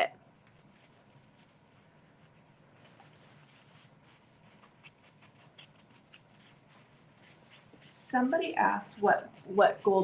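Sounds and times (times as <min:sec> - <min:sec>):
cloth rubbing napkin ring: 0:00.5 - 0:10.0.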